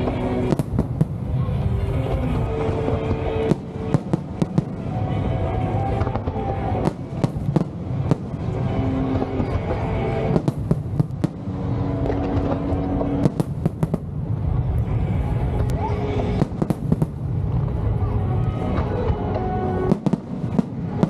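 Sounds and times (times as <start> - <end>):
fireworks booming and cracking: 0.0 - 21.0
music: 0.0 - 21.0.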